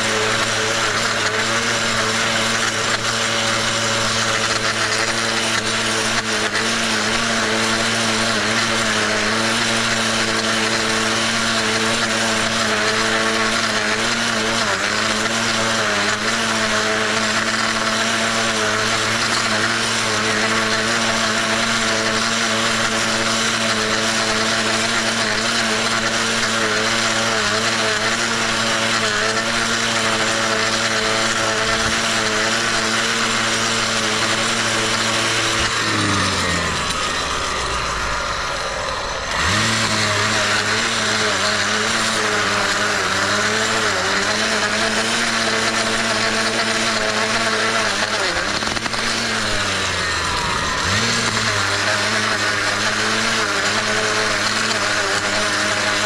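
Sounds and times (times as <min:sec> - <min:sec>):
blade edger engine running: 0:00.0 - 0:56.0.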